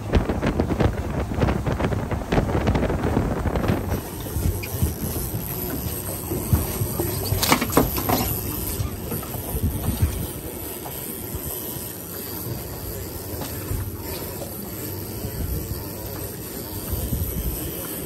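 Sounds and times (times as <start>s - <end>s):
boat noise: 0.0s - 18.0s
low rumbling wind: 0.0s - 18.0s.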